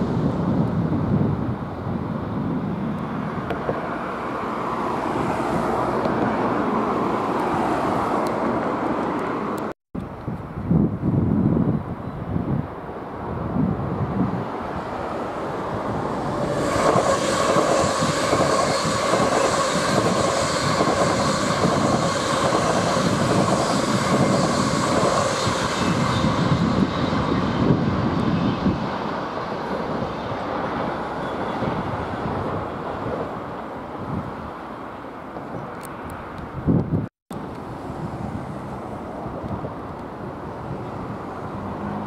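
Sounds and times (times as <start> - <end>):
passing vehicle rumble with whine: 0.0 - 11.7, 12.4 - 42.0.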